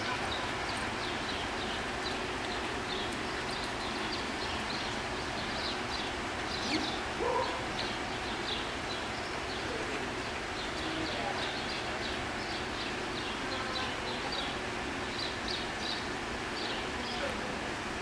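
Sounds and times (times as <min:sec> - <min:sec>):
small birds chirping: 0:00.3 - 0:17.4.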